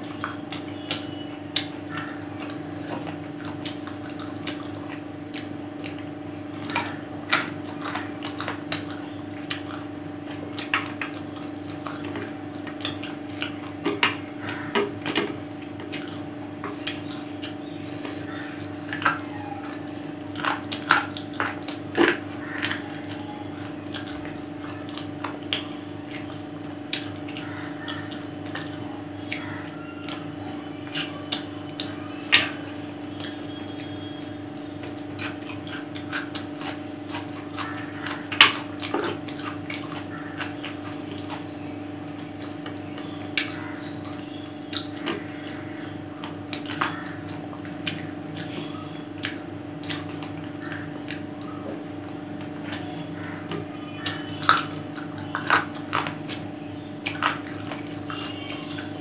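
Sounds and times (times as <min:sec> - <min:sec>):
steady low hum: 0:00.0 - 0:59.0
wet chewing smacks: 0:00.0 - 0:59.0.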